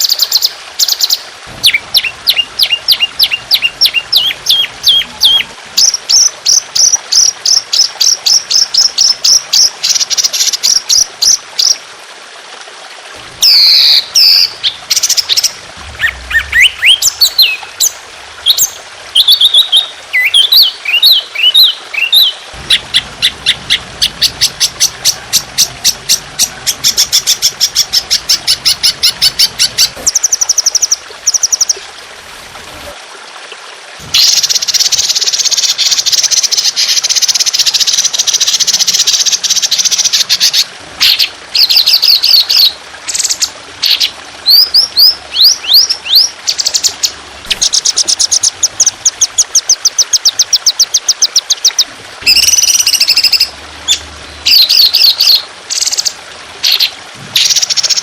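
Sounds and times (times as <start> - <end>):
songbird singing harsh trills: 0.0 - 6.9, 13.4 - 31.8, 34.2 - 58.0
trickle of water: 0.0 - 58.0.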